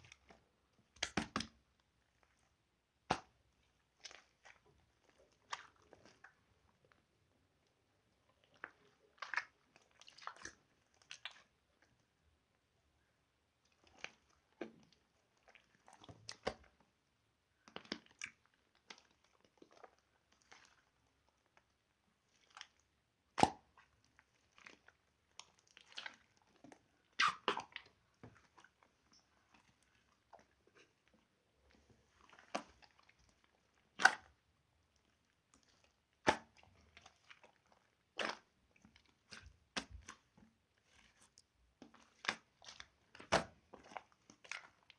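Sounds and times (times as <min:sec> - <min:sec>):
slime squishing by hand: 0:00.0 - 0:44.9.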